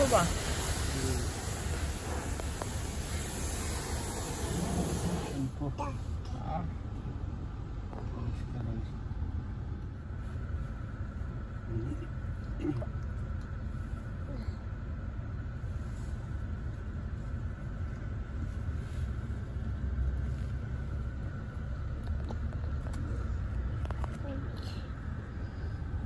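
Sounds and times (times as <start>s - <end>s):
faint high hum: 0.0s - 26.0s
car cabin rumble: 1.1s - 26.0s.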